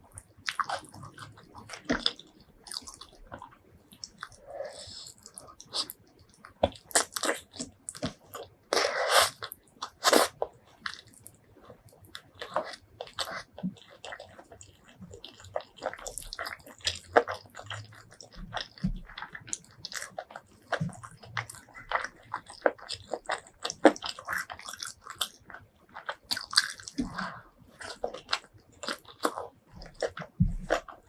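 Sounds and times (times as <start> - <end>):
close-miked chewing and biting: 0.0 - 31.0.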